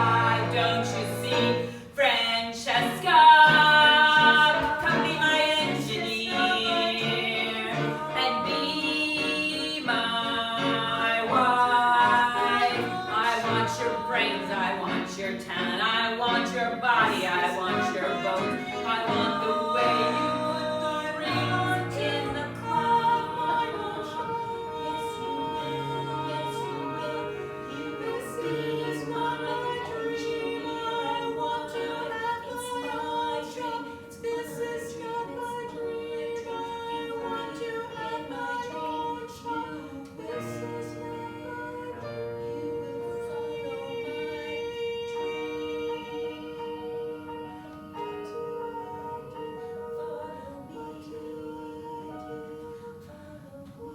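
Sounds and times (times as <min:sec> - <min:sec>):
choir singing held notes: 0:00.0 - 0:53.9.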